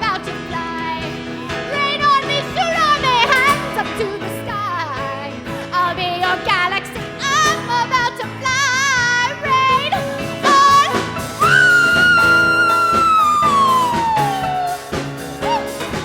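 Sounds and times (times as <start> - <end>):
pop backing track: 0.0 - 16.0
woman singing wordless vocal runs: 0.0 - 16.0.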